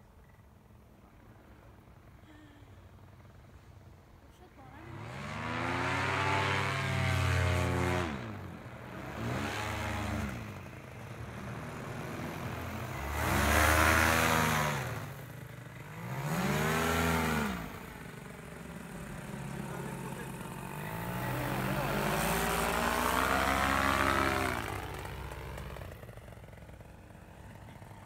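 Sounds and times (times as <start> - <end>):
paramotor engine and propeller: 0.0 - 28.0.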